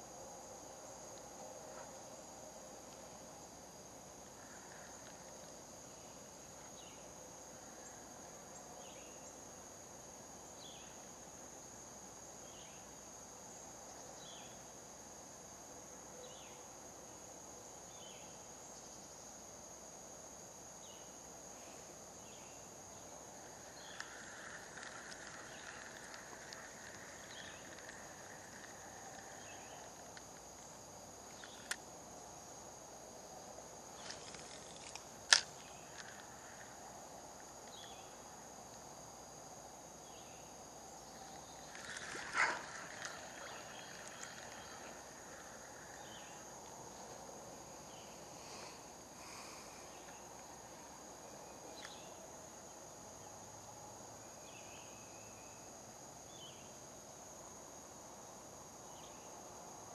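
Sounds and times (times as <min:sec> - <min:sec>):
insect chirps: 0:00.0 - 0:59.9
insects droning: 0:00.0 - 0:59.9.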